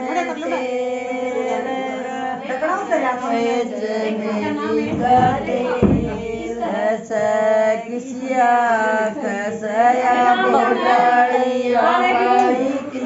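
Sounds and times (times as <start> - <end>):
women singing unaccompanied: 0.0 - 13.0.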